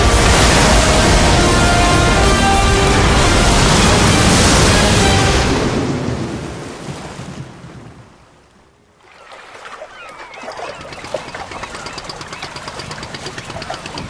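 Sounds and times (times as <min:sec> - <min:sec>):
calm water lapping: 0:00.0 - 0:14.0
rough sea waves and wind: 0:00.0 - 0:14.0.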